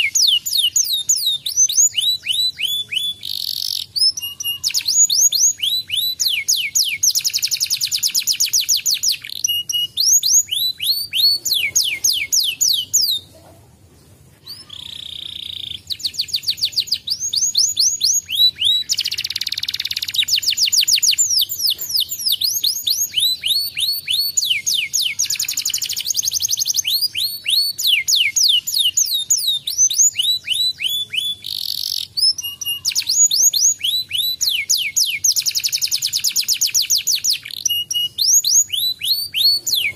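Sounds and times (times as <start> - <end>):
canary singing fast trills: 0.0 - 13.4, 14.1 - 39.9.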